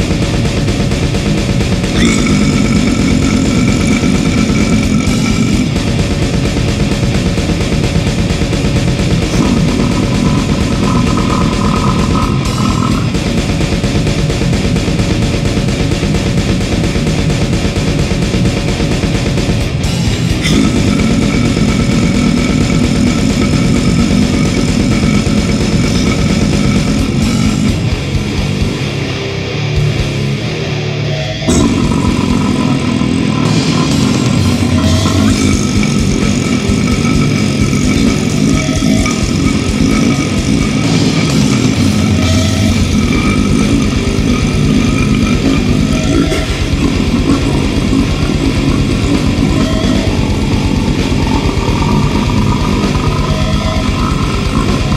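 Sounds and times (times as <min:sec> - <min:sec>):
fast dense drumming: 0:00.0 - 0:29.1, 0:31.5 - 0:54.9
distorted electric guitars: 0:00.0 - 0:54.9.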